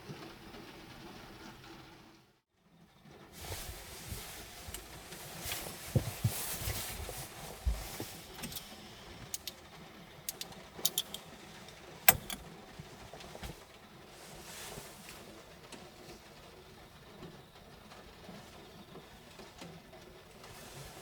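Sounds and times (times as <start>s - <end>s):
faint background noise: 2.8s - 21.0s.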